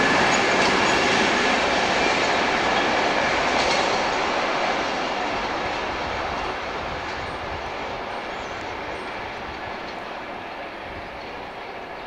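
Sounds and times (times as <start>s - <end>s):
freight train rolling on rails: 0.0s - 12.0s.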